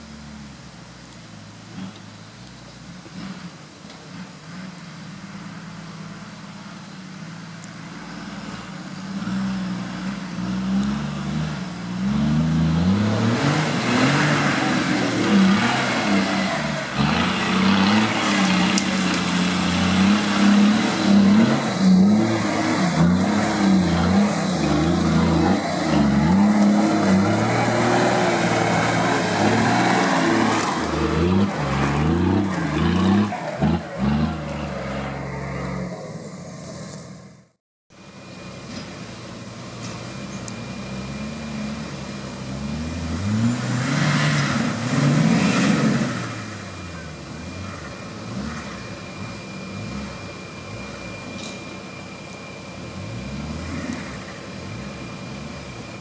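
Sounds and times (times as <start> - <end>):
vehicle engine revving: 1.6 - 37.6, 39.8 - 51.6, 52.8 - 56.0.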